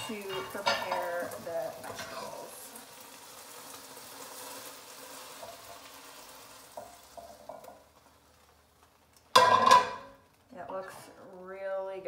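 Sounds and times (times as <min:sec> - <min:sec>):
chicken sizzling in a skillet: 0:00.0 - 0:11.9.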